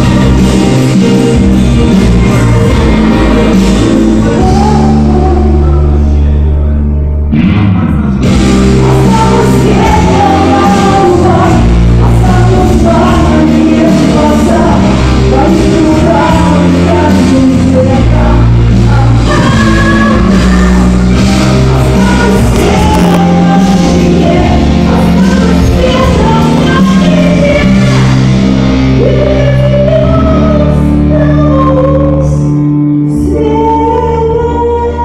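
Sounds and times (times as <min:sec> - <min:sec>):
rock backing track: 0:00.0 - 0:35.0
woman singing into microphone: 0:02.0 - 0:06.4, 0:08.4 - 0:35.0.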